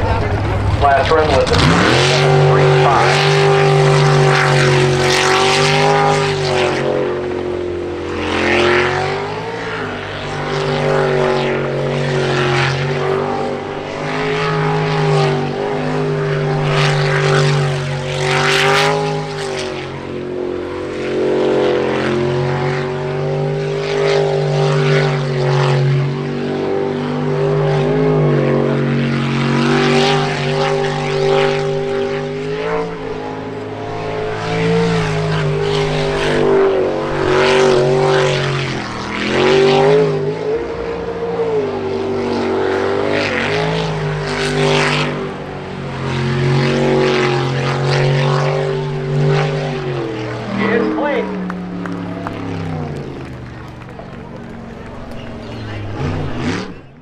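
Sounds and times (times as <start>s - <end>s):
racing boat engine at high revs: 0.0s - 57.0s.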